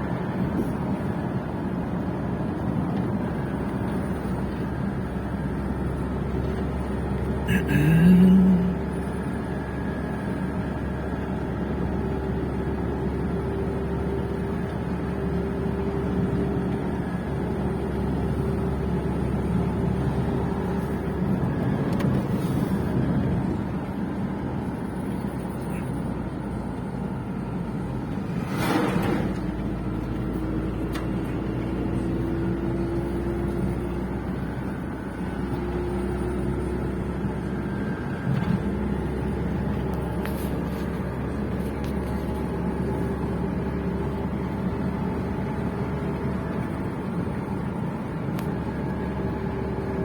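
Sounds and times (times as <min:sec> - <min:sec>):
vehicle road and engine noise: 0:00.0 - 0:50.0.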